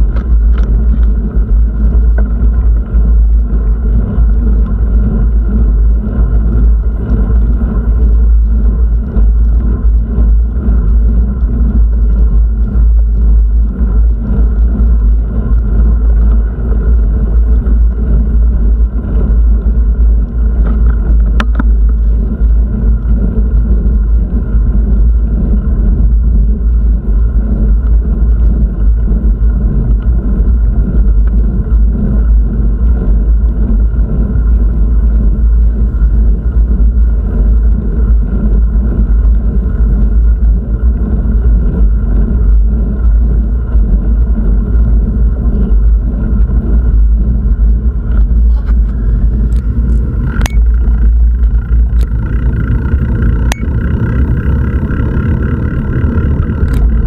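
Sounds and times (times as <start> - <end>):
low travel rumble: 0.0 - 57.0.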